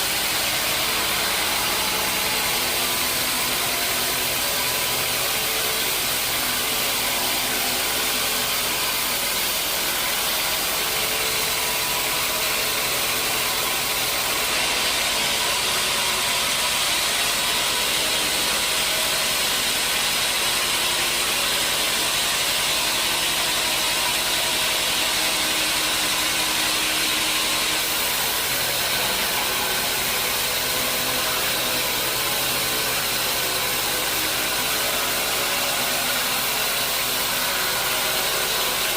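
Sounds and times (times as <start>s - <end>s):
sawmill machinery motor hum: 0.0s - 38.9s
steady machine hiss: 0.0s - 38.9s.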